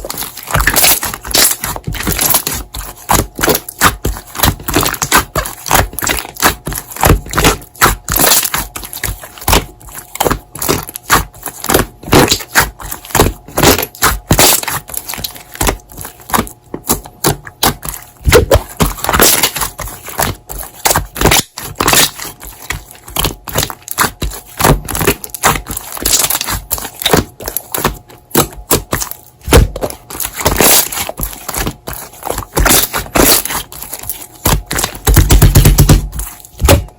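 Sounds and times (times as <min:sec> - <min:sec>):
slime squished by hand: 0:00.0 - 0:36.9.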